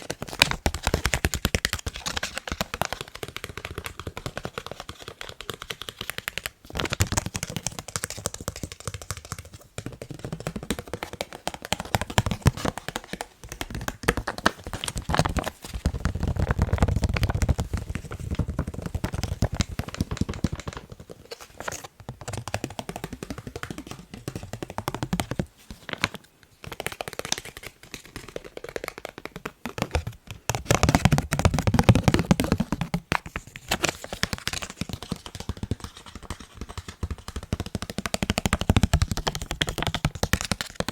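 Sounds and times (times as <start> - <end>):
fast tapping on face mask: 0.0 - 40.9.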